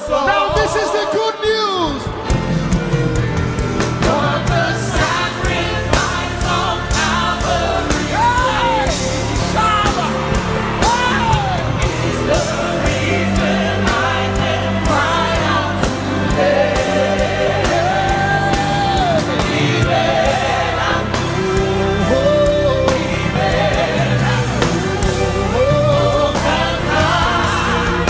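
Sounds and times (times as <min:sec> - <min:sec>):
congregation shouting: 0:00.0 - 0:28.0
band with steady beat: 0:01.4 - 0:28.0.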